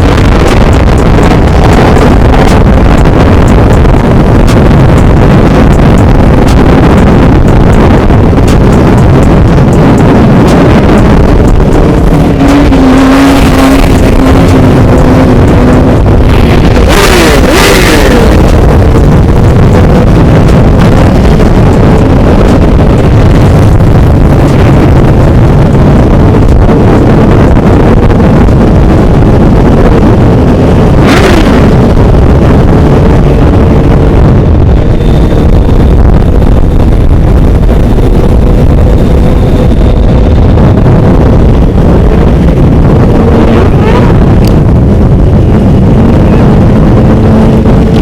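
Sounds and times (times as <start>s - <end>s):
motorcycle engines running: 0.0s - 48.0s
wind noise on microphone: 0.0s - 48.0s.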